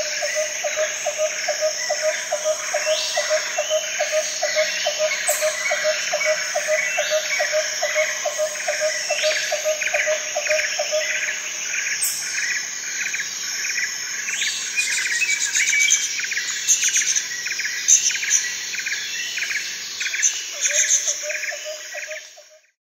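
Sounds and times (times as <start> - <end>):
birds chirping and calling: 0.0 - 22.6
insects chorus: 0.0 - 22.7.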